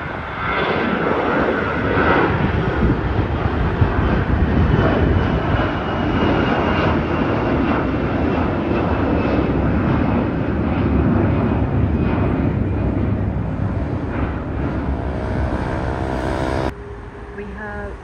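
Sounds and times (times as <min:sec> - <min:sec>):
jet engines rumbling at takeoff: 0:00.0 - 0:18.0.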